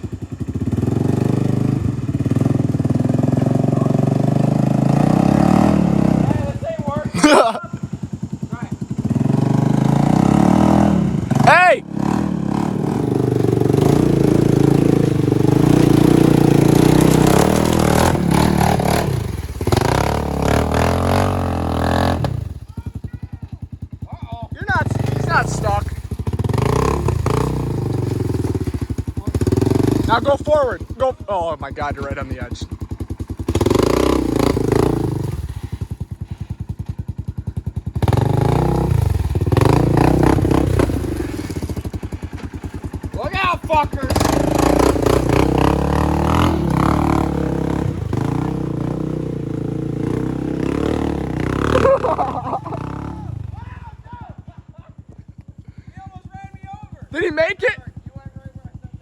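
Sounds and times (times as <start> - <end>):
vehicle engine working under load: 0.0 - 53.9.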